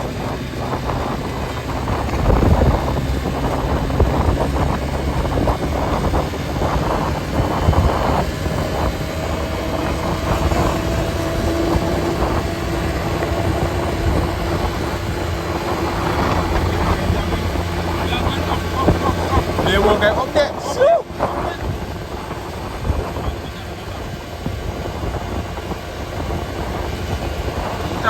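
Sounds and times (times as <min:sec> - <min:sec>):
engine and tyre rumble: 0:00.0 - 0:28.0
wind buffeting microphone: 0:00.0 - 0:28.0.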